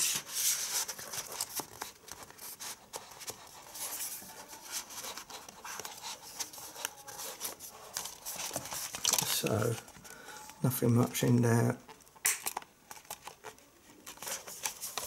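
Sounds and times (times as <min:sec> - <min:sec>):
packaging rustling and clicking: 0:00.0 - 0:10.2, 0:11.9 - 0:15.0.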